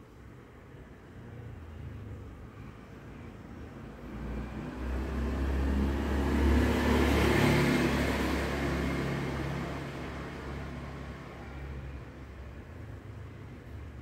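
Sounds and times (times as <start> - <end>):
motor vehicle passing by: 1.7 - 14.0.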